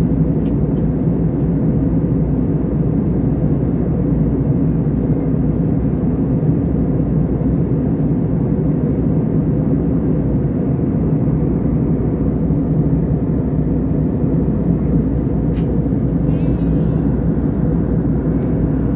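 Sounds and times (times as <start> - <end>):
airliner cabin engine drone: 0.0 - 18.9.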